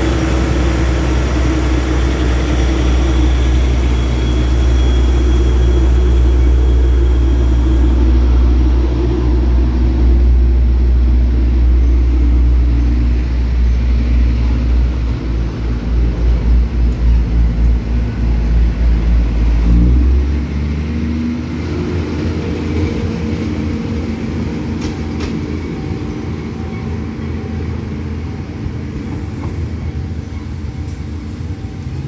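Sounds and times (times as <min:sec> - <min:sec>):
diesel train engine throbbing: 0:00.0 - 0:32.0
train rumbling on rails: 0:00.0 - 0:32.0.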